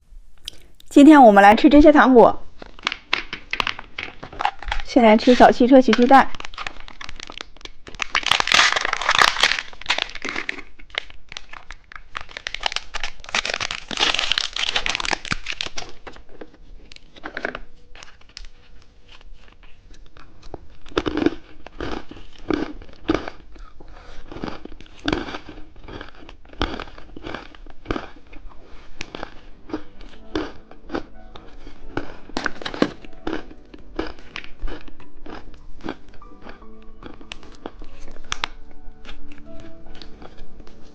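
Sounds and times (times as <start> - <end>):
plastic wrapper crinkling and tearing: 2.5 - 40.9.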